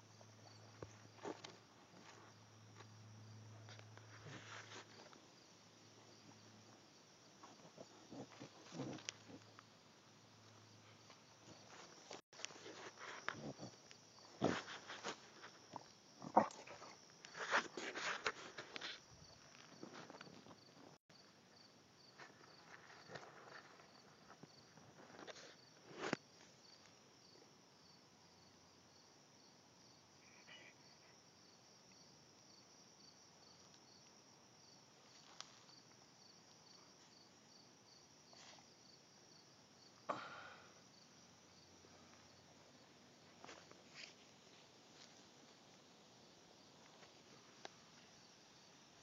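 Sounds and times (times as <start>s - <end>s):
insect chirping: 0.0s - 49.0s.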